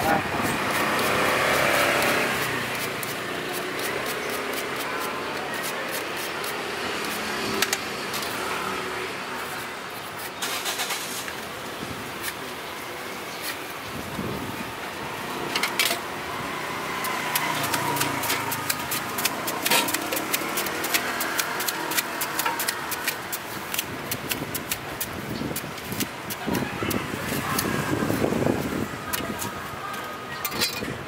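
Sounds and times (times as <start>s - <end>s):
street traffic hum: 0.0s - 31.0s.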